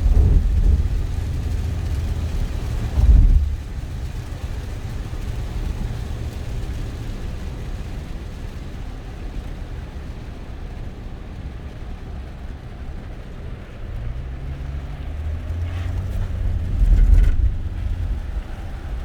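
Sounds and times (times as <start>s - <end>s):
deep rumble: 0.0s - 10.3s, 11.1s - 19.0s
car engine and road rumble: 0.0s - 19.0s.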